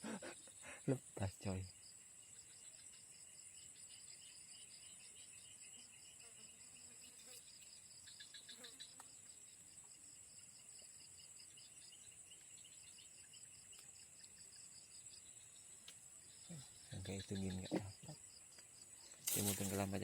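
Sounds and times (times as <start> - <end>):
insect chirps: 0.0 - 20.0
insects trilling: 0.0 - 20.0.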